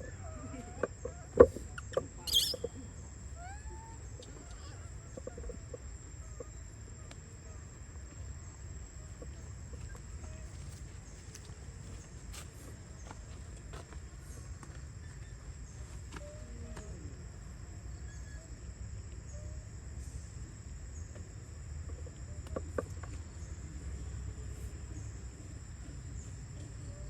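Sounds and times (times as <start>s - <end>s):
faint animal calls and chirps: 0.0s - 27.0s.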